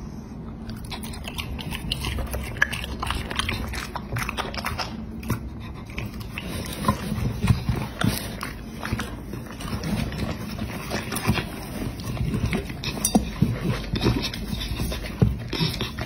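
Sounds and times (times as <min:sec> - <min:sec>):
dog licking metal plate: 0:00.8 - 0:16.0.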